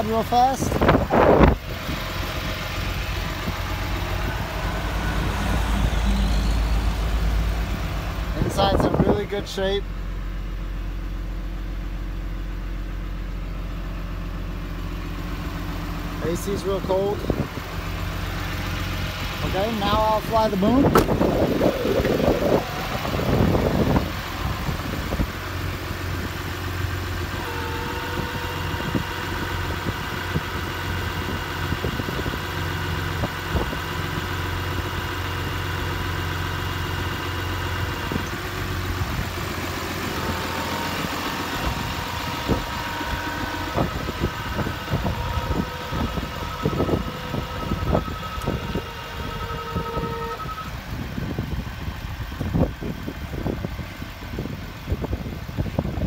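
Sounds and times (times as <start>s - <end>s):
diesel truck engine running: 0.0s - 56.0s
hydraulic whine: 0.4s - 9.4s, 14.6s - 51.5s.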